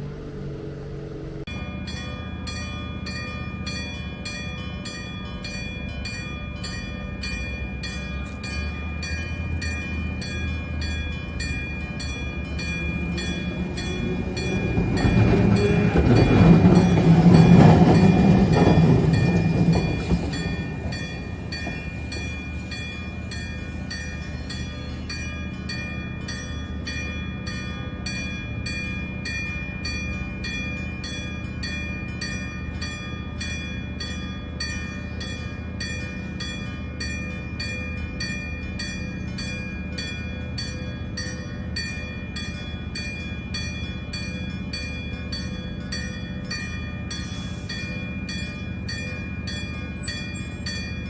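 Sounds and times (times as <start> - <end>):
mechanical warning bell ringing: 1.5 - 51.0.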